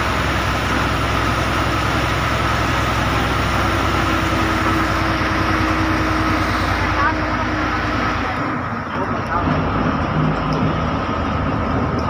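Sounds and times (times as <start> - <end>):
bus engine running: 0.0 - 12.0
road noise on wet road: 0.0 - 12.0.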